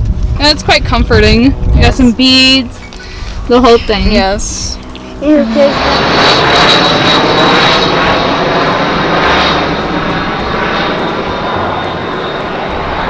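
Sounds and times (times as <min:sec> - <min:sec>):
rushing engine drone with whine: 0:00.0 - 0:13.0.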